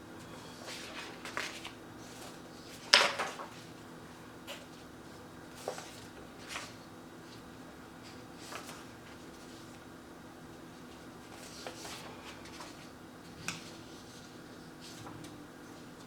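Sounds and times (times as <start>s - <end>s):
paper rustling: 0.6s - 3.8s, 4.5s - 9.9s, 10.8s - 16.0s.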